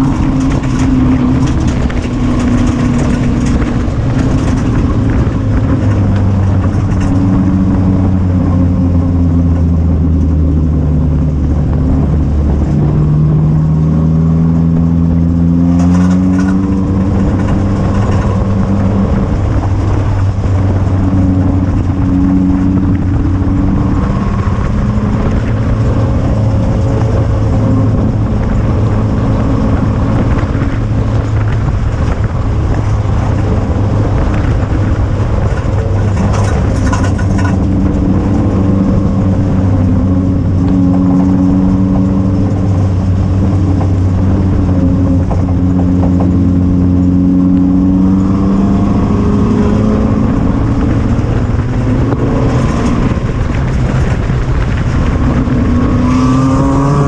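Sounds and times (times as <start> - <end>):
car engine running at low speed: 0.0 - 57.0.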